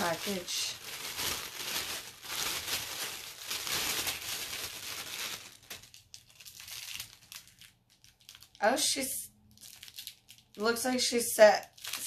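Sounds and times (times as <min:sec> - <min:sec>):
tissue paper crinkling: 0:00.0 - 0:08.7, 0:09.5 - 0:10.8, 0:11.4 - 0:12.0.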